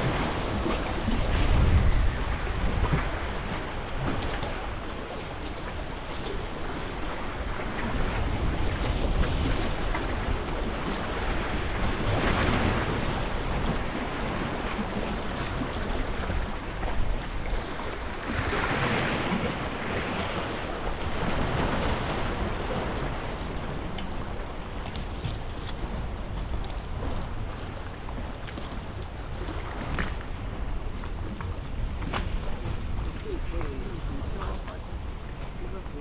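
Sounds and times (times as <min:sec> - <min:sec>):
waves splashing against shore: 0:00.0 - 0:36.0
wind buffeting microphone: 0:00.0 - 0:36.0.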